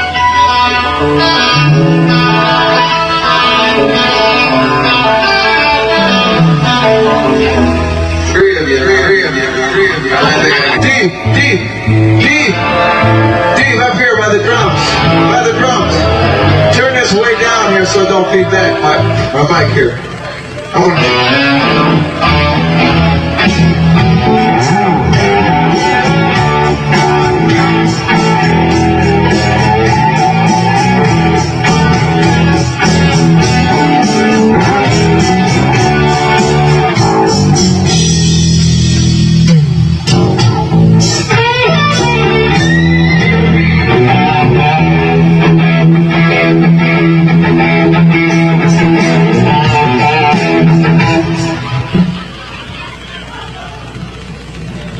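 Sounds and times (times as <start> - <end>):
loud electric guitar: 0.0 - 54.9.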